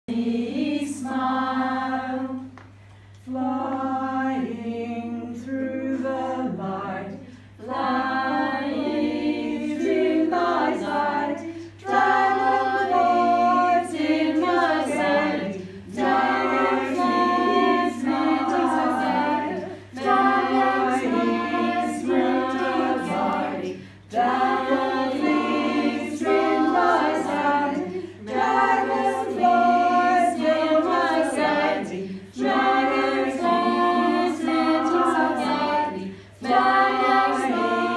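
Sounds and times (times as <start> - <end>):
group singing a cappella: 0.0 - 37.9.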